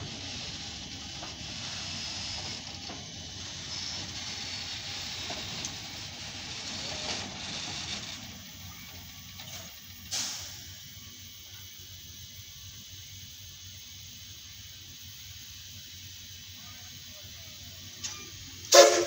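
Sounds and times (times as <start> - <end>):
low mechanical rumble: 0.0 - 18.7
steam locomotive hissing: 0.0 - 19.0.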